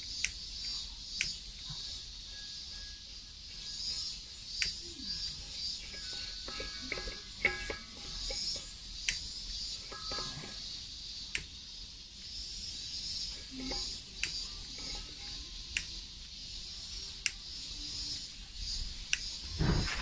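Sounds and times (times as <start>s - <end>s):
steady high-pitched buzz: 0.0s - 20.0s.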